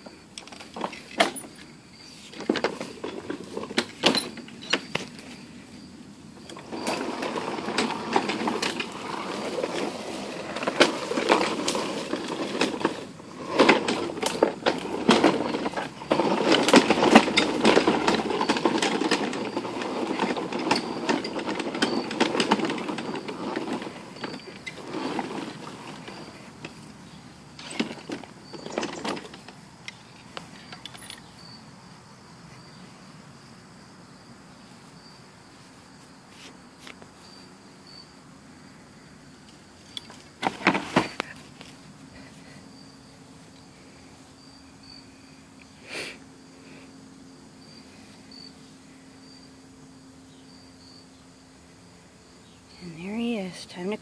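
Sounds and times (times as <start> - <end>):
pushed lawnmower rattling: 0.0 - 31.6, 39.5 - 54.0.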